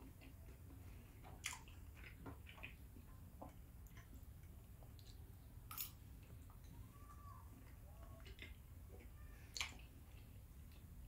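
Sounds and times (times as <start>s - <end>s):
low room hum: 0.0s - 11.0s
person chewing food: 0.0s - 11.0s.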